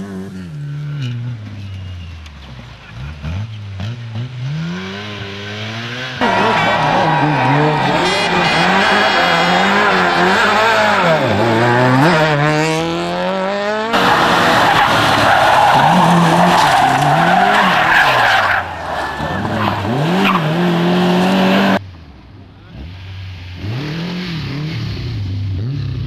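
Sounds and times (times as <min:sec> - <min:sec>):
rally car engines revving: 0:00.0 - 0:26.0
tyre and road noise: 0:00.0 - 0:26.0
tyres skidding: 0:01.0 - 0:25.7
car passing: 0:02.4 - 0:26.0.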